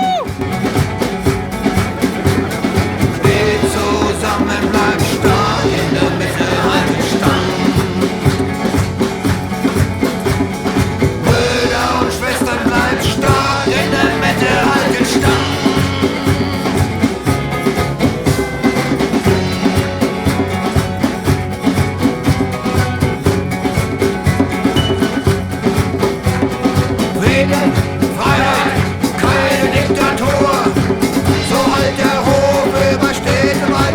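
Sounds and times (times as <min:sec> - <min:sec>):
rock music with singing: 0:00.0 - 0:33.9.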